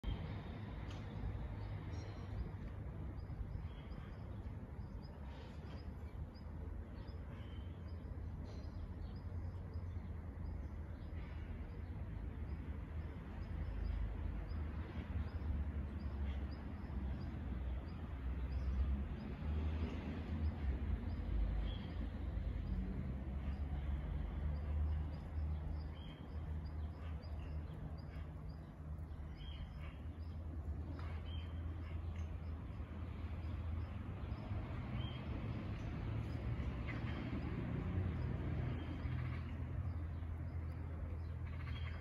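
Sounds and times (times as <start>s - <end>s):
low outdoor rumble: 0.0s - 42.0s
small birds chirping: 0.0s - 42.0s.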